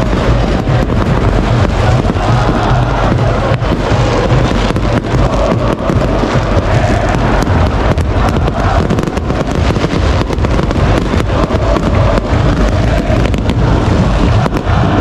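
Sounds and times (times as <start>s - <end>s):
fireworks crackling and banging: 0.0s - 15.0s
large football crowd noise: 0.0s - 15.0s.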